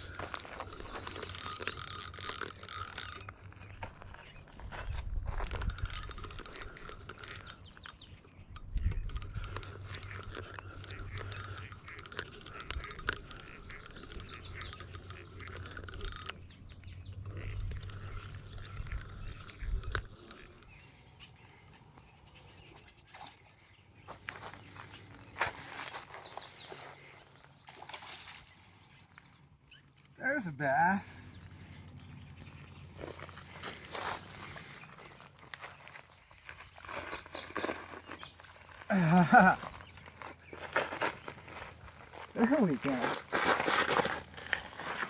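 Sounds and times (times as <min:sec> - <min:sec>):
fishing reel gear ticking: 0:00.0 - 0:03.8, 0:05.3 - 0:45.0.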